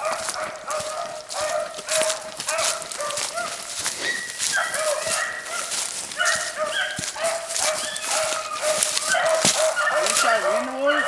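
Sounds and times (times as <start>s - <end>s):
hounds baying: 0.0s - 11.0s.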